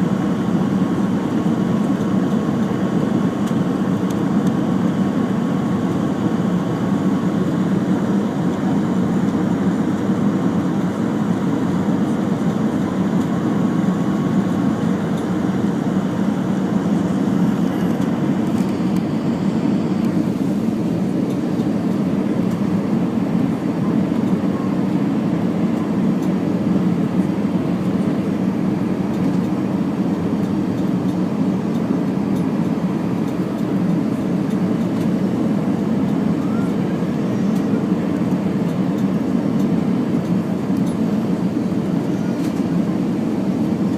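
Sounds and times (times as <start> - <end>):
airliner cabin roar: 0.0 - 43.9.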